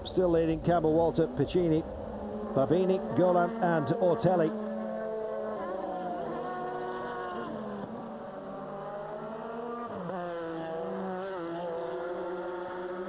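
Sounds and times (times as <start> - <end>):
race car engines at high revs: 0.8 - 13.0.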